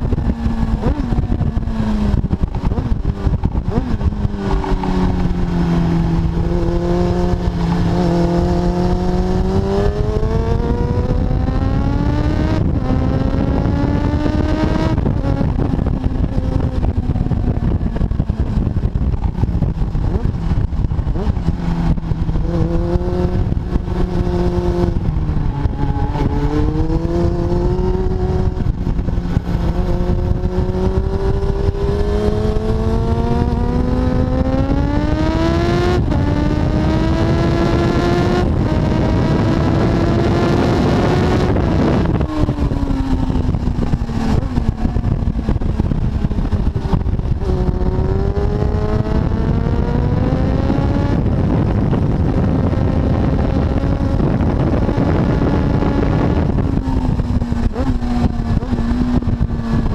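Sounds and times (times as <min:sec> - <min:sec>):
motorcycle engine revving: 0:00.0 - 0:59.9
wind rush on microphone: 0:00.0 - 0:59.9.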